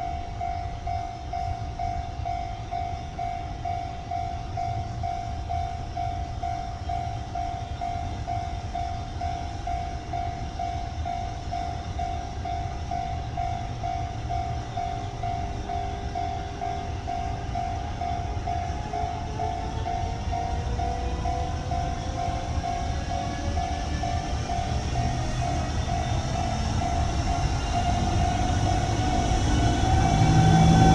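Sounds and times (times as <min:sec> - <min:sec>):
faint rising whine: 0:00.0 - 0:30.9
freight train rumbling past: 0:00.0 - 0:30.9
level-crossing warning bell: 0:00.0 - 0:30.9.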